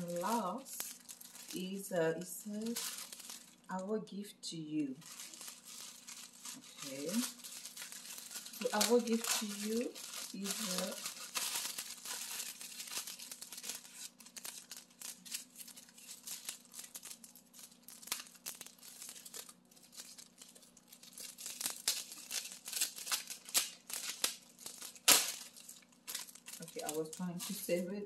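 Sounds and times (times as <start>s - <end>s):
bag ripping open: 0.0s - 1.8s, 2.5s - 3.6s, 5.0s - 27.8s
cellophane bag crinkling: 0.0s - 3.8s, 4.9s - 28.0s.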